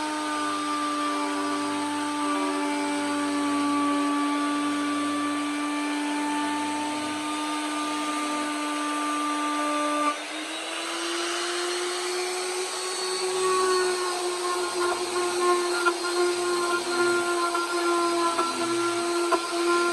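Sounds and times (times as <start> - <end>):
power carving tool whining: 0.0 - 19.9.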